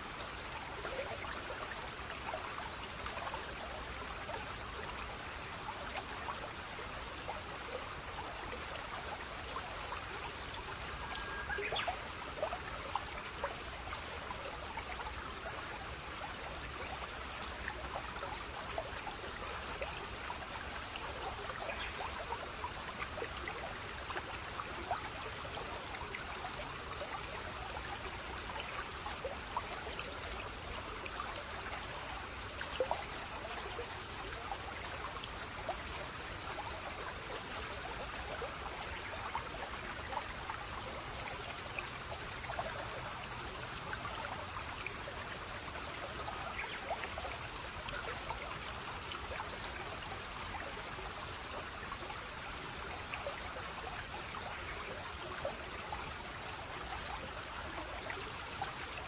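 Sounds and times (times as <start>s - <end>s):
stream trickling and splashing: 0.0s - 59.0s.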